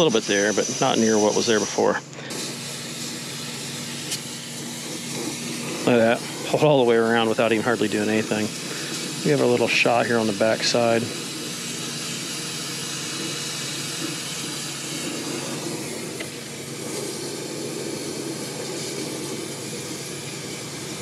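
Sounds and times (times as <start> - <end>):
torch flame hissing: 0.0 - 21.0.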